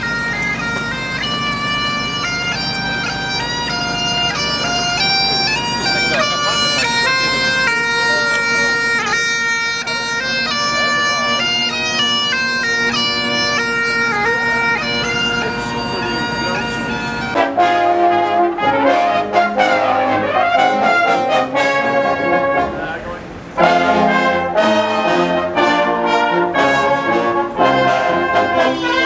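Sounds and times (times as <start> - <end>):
bagpipes playing marching tune: 0.0 - 29.0
brass band playing: 0.0 - 29.0.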